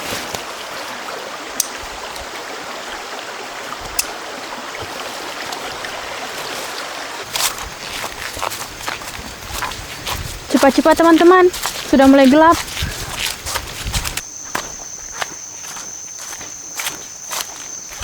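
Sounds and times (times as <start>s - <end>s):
river flowing: 0.0s - 18.0s.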